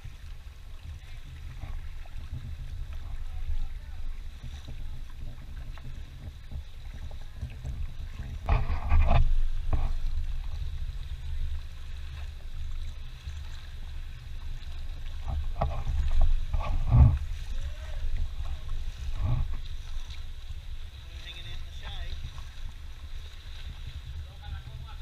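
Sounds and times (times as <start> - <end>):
muffled rumble of wind and water: 0.0 - 25.0
water splashing: 0.0 - 25.0.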